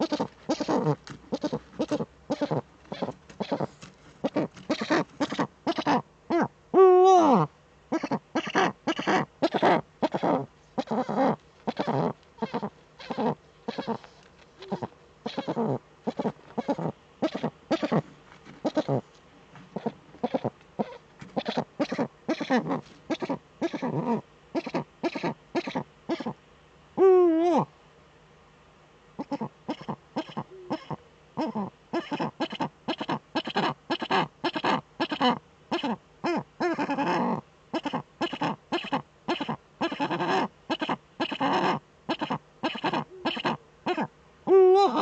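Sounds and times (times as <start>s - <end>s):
owl calling: 0.0s - 19.0s, 19.7s - 26.4s, 29.2s - 45.0s.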